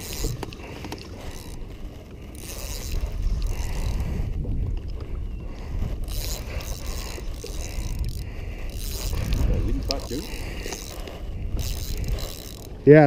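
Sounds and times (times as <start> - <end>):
fishing reel cranking: 0.0 - 13.0
water around a boat: 0.0 - 13.0
wind rumbling on microphone: 0.0 - 13.0.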